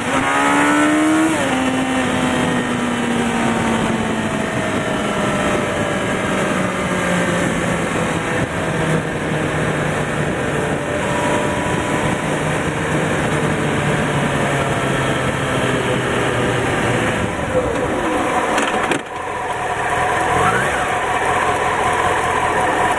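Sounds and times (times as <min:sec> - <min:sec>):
wind rush: 0:00.0 - 0:21.1
motorcycle engine decelerating: 0:00.0 - 0:22.9.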